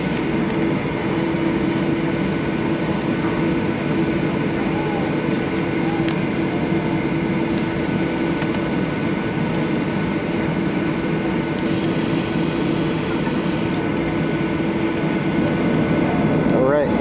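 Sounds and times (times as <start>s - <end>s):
airliner cabin drone: 0.0s - 17.0s
low hum tone: 0.0s - 17.0s.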